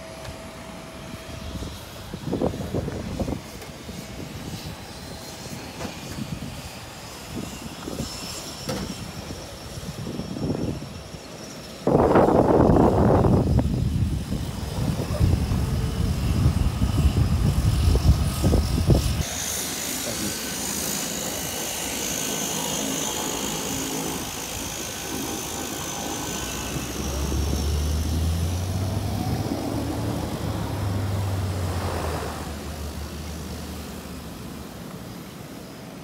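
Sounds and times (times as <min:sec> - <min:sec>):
high turbine whine: 0:00.0 - 0:36.0
low propeller drone: 0:00.0 - 0:36.0
wind rumbling on microphone: 0:01.1 - 0:19.6, 0:22.6 - 0:34.7.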